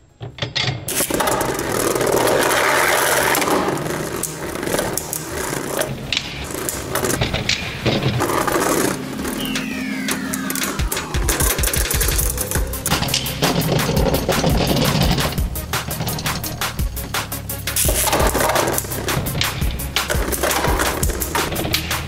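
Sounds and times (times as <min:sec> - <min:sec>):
spinning tops clacking together: 0:00.9 - 0:22.0
spinning tops whirring and scraping: 0:00.9 - 0:22.0
falling whine: 0:03.4 - 0:22.0.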